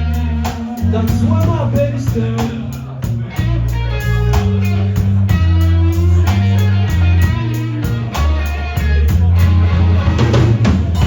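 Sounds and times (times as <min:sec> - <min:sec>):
bass guitar notes: 0:00.0 - 0:11.0
steady drum beat: 0:00.0 - 0:11.0.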